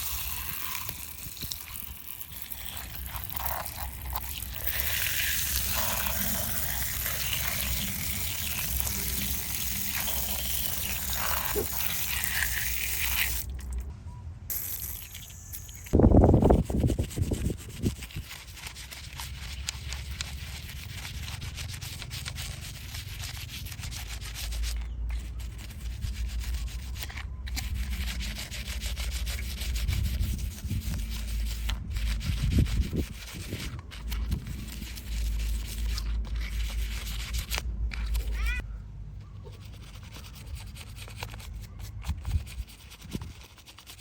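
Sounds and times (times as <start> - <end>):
scrubbing on toy model: 0.0 - 13.9, 16.1 - 38.6.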